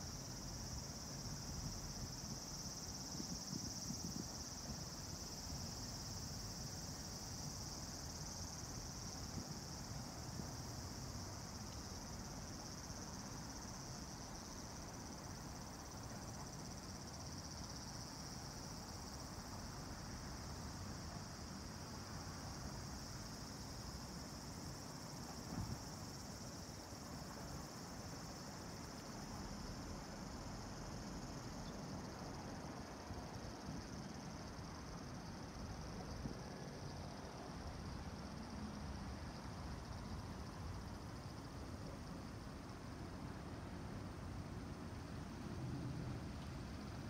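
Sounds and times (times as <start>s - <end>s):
insect chorus drone: 0.0s - 47.0s.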